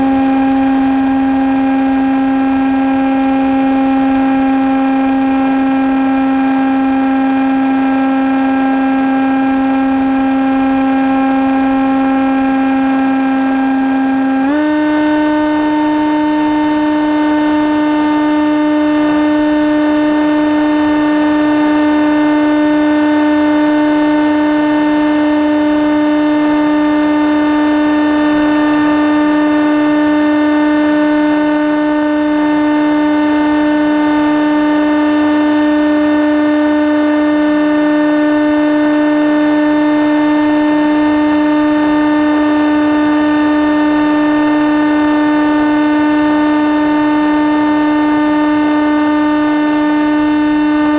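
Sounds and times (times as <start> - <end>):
model aircraft motor hum: 0.0 - 50.9.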